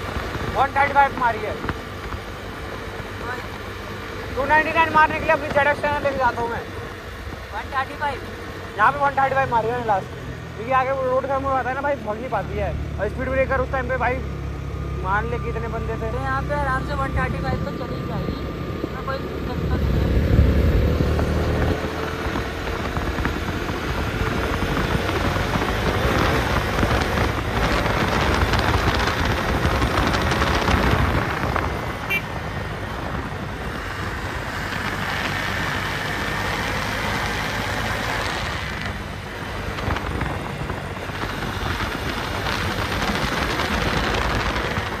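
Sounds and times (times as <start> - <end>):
wind rush on microphone: 0.0 - 8.2, 16.7 - 45.0
motorcycle engine running: 0.0 - 45.0.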